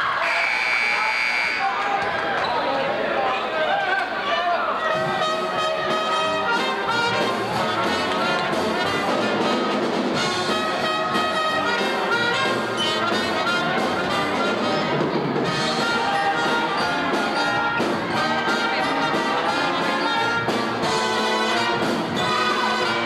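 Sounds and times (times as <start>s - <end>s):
brass pep band music: 0.1s - 1.8s, 4.8s - 23.0s.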